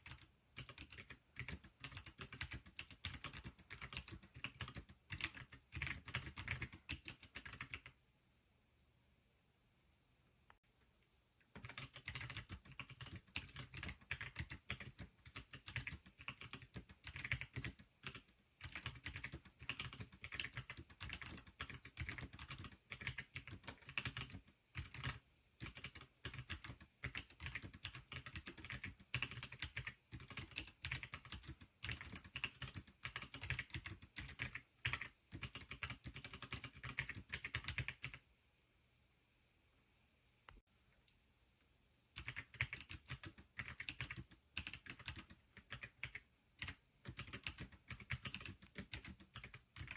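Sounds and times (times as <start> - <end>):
keyboard typing clicks: 0.0 - 7.9, 11.5 - 38.2, 42.2 - 49.9.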